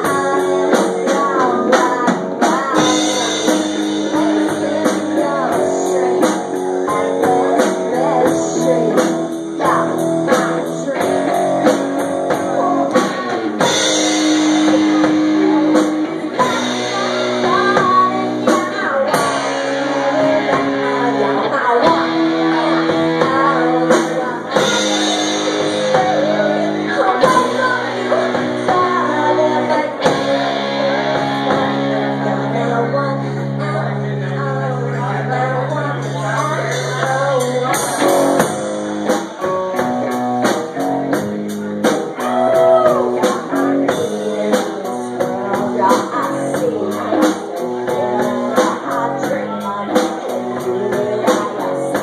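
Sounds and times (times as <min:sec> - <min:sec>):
drum kit: 0:00.0 - 0:52.0
electric guitar: 0:00.0 - 0:52.0
woman singing: 0:00.0 - 0:52.0.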